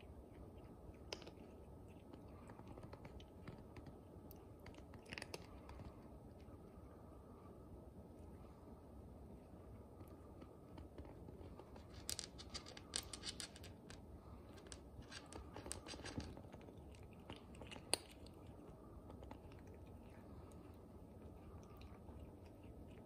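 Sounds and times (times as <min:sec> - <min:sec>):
cat crunching dry kibble: 0:00.1 - 0:06.6, 0:10.4 - 0:23.0.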